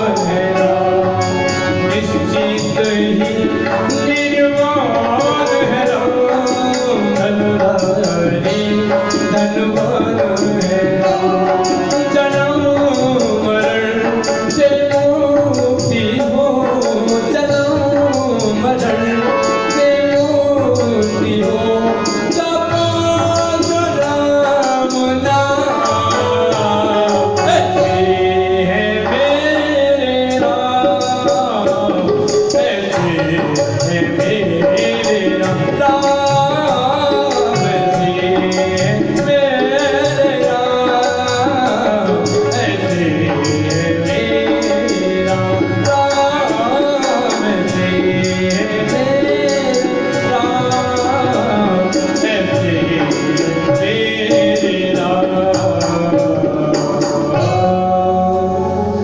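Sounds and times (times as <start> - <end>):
man singing: 0.0 - 59.0
tabla rhythm: 0.0 - 59.0.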